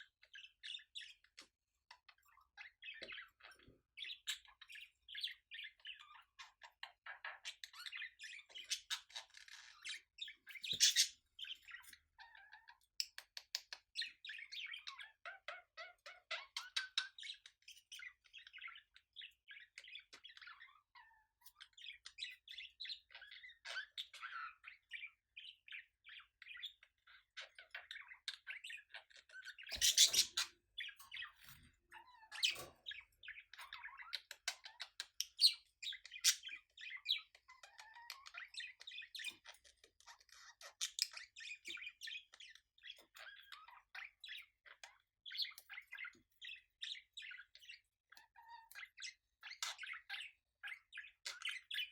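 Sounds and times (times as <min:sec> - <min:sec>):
budgerigars chattering and warbling: 0:00.0 - 0:51.9.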